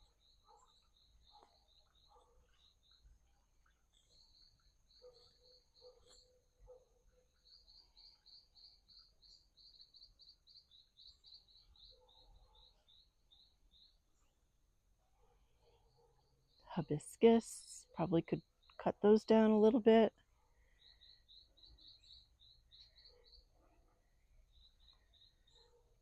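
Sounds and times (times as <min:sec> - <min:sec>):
faint birdsong chirps: 0:00.0 - 0:26.0.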